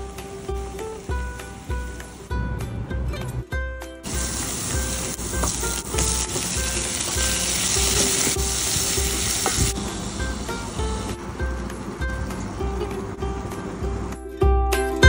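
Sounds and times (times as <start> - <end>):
vegetables sizzling in hot oil: 0.0 - 2.3, 4.0 - 14.1.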